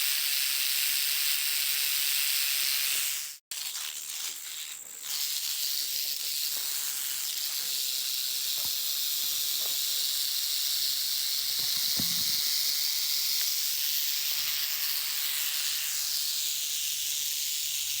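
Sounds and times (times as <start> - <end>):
rattlesnake tail rattle buzzing: 0.0 - 18.0.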